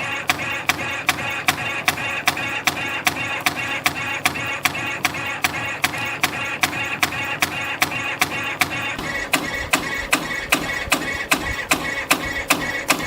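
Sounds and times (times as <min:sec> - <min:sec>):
spring coiling machine whirring: 0:00.0 - 0:13.0
sharp cutter click: 0:00.3 - 0:13.0.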